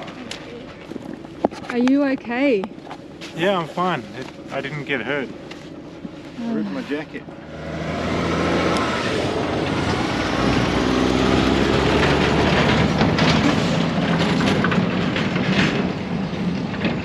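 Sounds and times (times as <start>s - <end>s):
road noise: 0.0s - 17.0s
vehicle engine humming: 0.0s - 17.0s.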